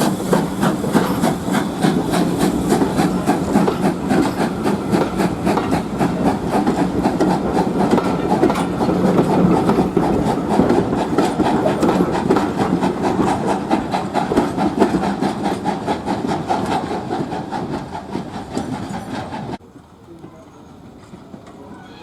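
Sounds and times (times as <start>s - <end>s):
train wheels clattering over track: 0.0s - 22.0s.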